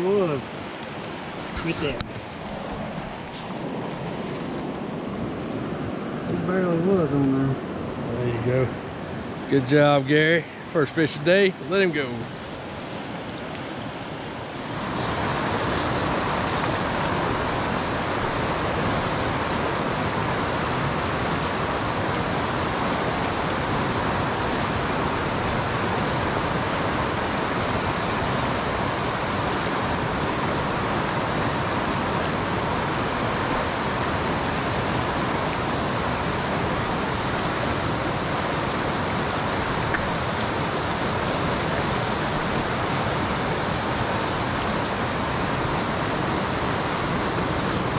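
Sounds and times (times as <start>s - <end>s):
river rushing over rocks: 0.0s - 7.1s, 8.8s - 47.9s.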